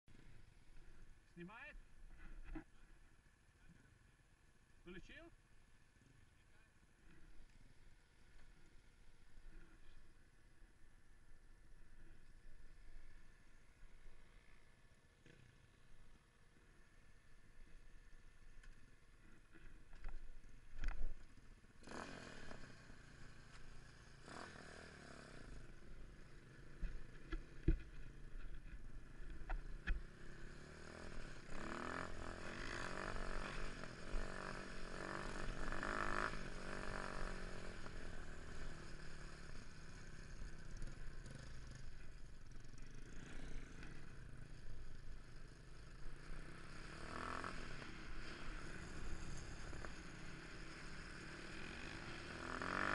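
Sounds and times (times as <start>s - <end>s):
motorcycle engines revving: 6.4s - 52.9s.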